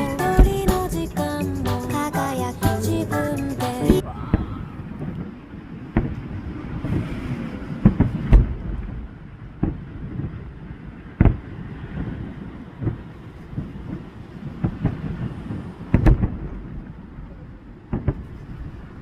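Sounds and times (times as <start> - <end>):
steady outdoor rumble: 0.0 - 19.0.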